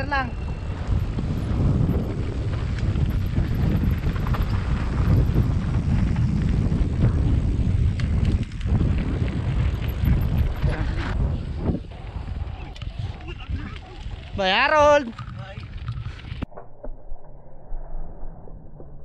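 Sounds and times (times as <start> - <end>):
bike rattling: 0.0 - 16.5
wind buffeting microphone: 0.0 - 16.5.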